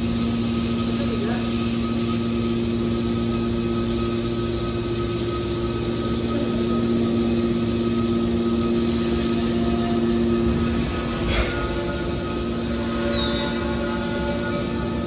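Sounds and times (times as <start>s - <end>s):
hydraulic power unit humming: 0.0s - 15.0s
motor and pump whine: 0.0s - 15.0s.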